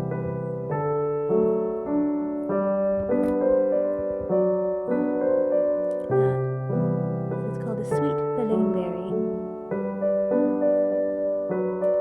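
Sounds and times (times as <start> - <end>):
gentle solo piano melody: 0.0 - 12.0.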